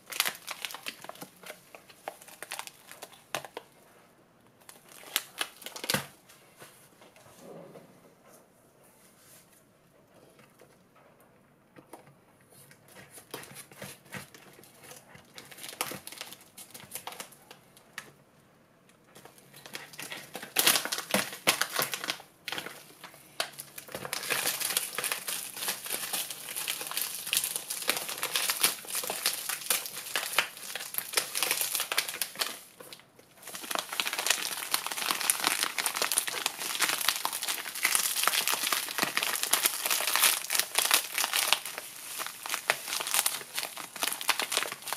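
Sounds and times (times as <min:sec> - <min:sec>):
sugar packet crinkling: 0:00.0 - 0:03.7, 0:04.6 - 0:06.1, 0:13.0 - 0:18.1, 0:19.2 - 0:44.9.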